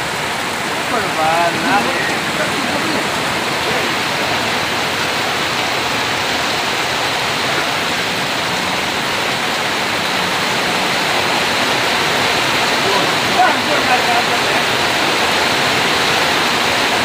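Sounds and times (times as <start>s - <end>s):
heavy rain: 0.0s - 17.0s
runoff streaming off roof: 0.0s - 17.0s.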